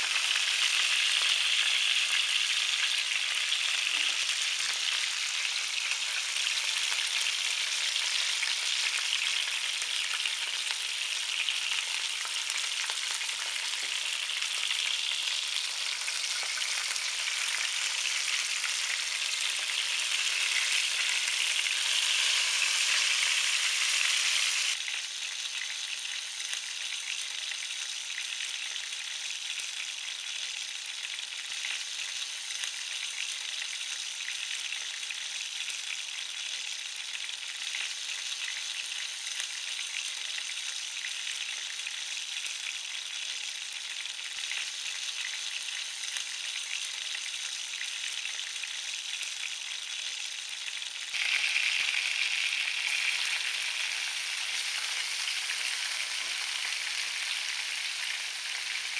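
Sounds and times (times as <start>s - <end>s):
sausages sizzling in a frying pan: 0.0s - 58.9s.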